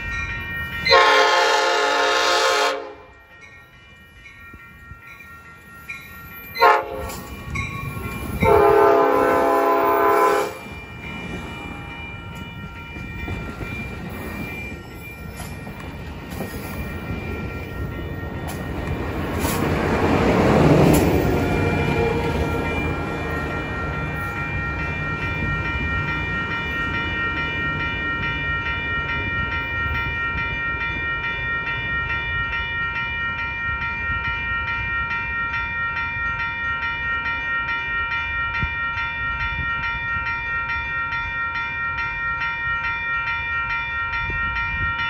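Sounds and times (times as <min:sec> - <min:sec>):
railroad crossing bell ringing: 0:00.0 - 0:45.0
train rumbling: 0:00.0 - 0:45.0.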